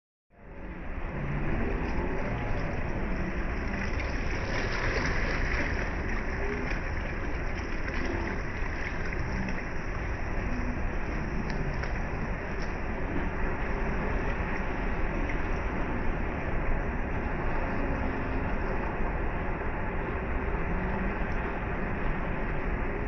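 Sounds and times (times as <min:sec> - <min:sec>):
low rumble: 0:00.3 - 0:23.0
small waves washing onto sand: 0:00.5 - 0:23.0.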